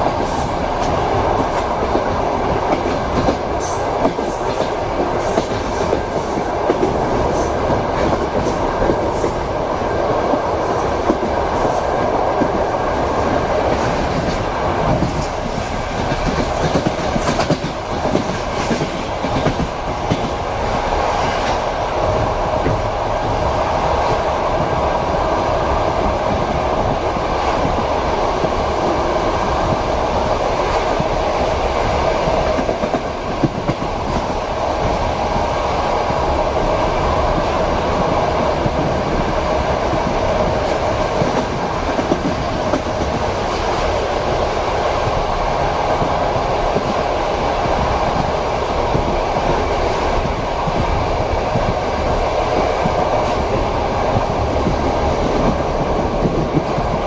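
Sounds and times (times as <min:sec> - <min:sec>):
train rumble inside compartment: 0:00.0 - 0:57.0.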